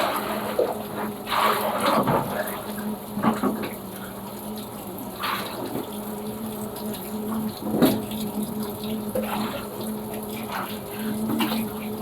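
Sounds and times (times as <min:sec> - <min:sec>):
washing machine hum: 0:00.0 - 0:12.0
water splashing in washing machine: 0:00.0 - 0:12.0.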